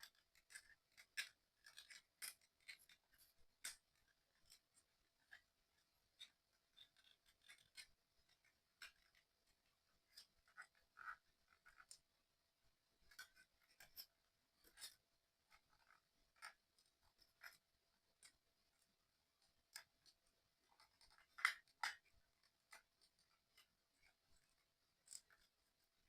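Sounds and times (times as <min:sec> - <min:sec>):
small puzzle parts clicking and tapping: 0:00.0 - 0:12.2, 0:13.0 - 0:26.0.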